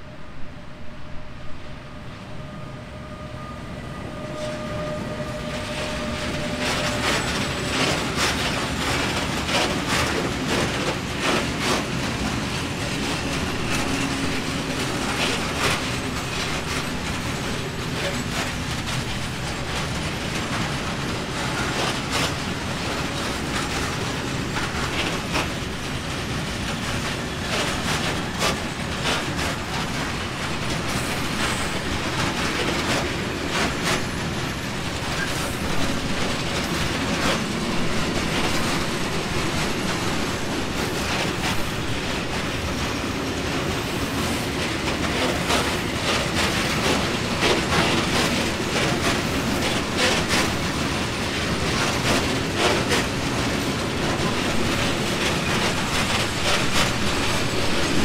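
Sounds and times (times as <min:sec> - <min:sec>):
electric locomotive whine: 0:00.0 - 0:58.0
train wheel rumble: 0:00.0 - 0:58.0
wheels clacking on rail joints: 0:04.1 - 0:58.0.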